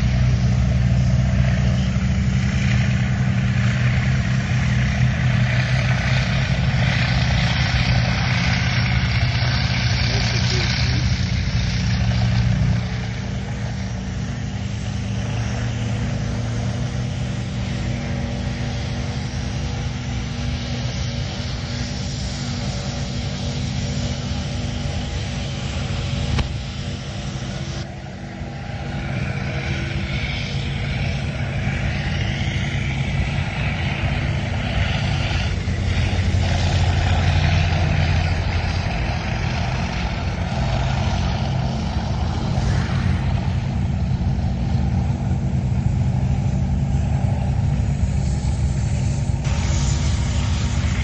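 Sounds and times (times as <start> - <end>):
tank engines droning: 0.0 - 51.0.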